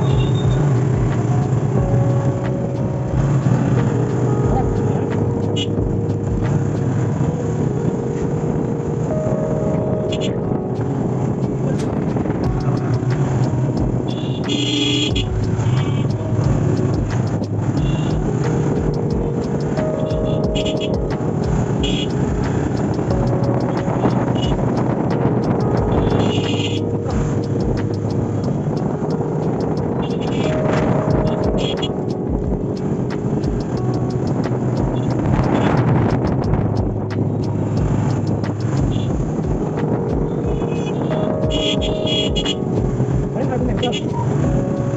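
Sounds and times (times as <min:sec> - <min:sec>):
horn honking: 0:00.0 - 0:06.0, 0:09.1 - 0:32.2, 0:33.8 - 0:36.4, 0:37.2 - 0:42.8, 0:43.4 - 0:44.8
vehicle engine running: 0:00.0 - 0:44.9
wind buffeting microphone: 0:00.0 - 0:44.9.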